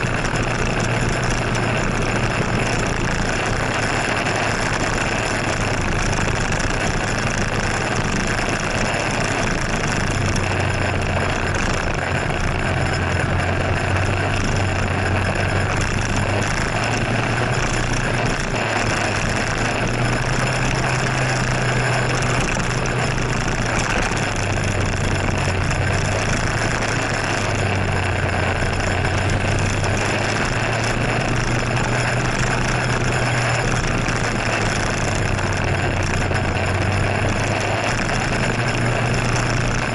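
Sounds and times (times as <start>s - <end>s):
rushing noise: 0.0s - 39.9s
scooter engine drone: 0.0s - 39.9s.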